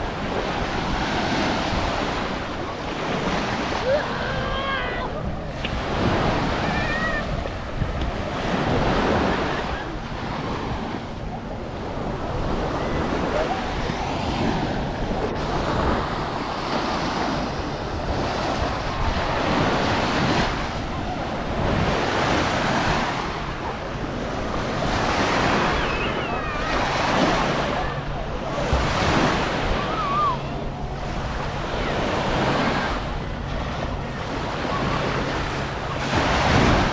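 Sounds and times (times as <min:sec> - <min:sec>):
small waves washing on sand: 0:00.0 - 0:36.9.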